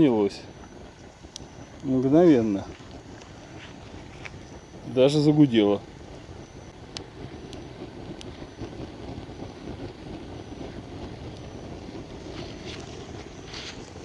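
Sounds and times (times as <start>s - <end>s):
fire crackles: 0.0s - 14.0s
log fire burning with low hum: 0.0s - 14.0s.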